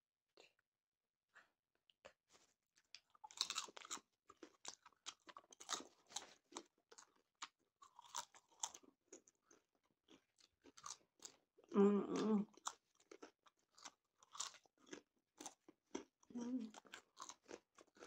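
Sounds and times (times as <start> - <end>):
people chewing popcorn: 1.4 - 18.0.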